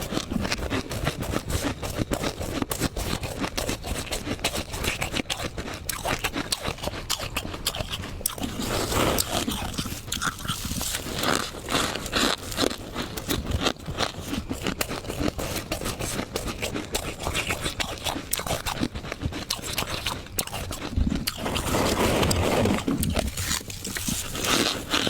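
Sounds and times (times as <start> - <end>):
frost being chewed: 0.0 - 25.0.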